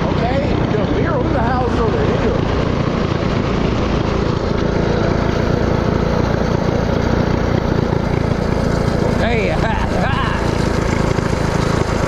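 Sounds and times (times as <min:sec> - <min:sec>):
mini-bike engine running: 0:00.0 - 0:12.0.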